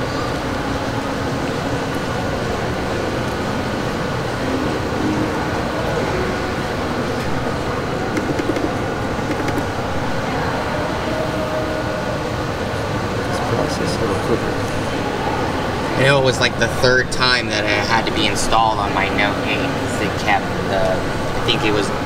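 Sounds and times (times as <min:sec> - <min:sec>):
shopping mall background noise: 0:00.0 - 0:22.0.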